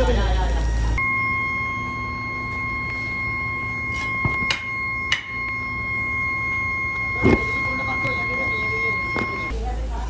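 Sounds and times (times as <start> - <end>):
high-pitched machine whine: 0.0 - 10.0
low hum: 0.0 - 10.0.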